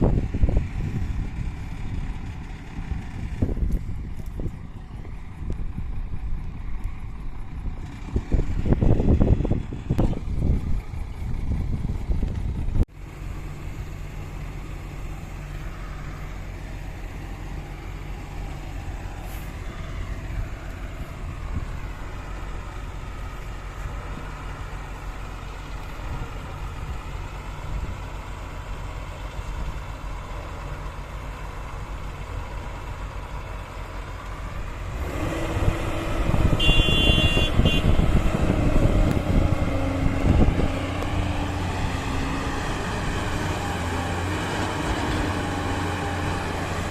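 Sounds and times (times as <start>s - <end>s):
heavy diesel machinery engines: 0.0s - 46.9s.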